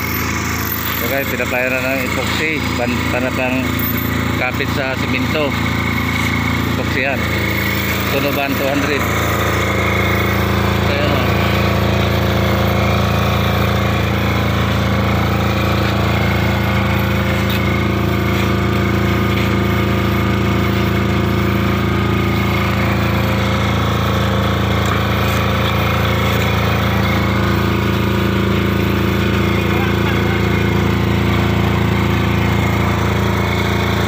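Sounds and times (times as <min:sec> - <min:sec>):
engine running with rattling hum: 0:00.0 - 0:34.0.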